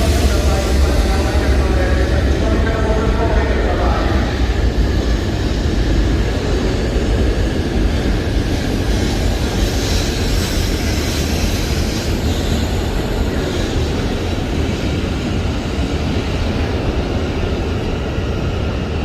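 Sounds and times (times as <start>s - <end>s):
train rushing rumble: 0.0s - 19.0s.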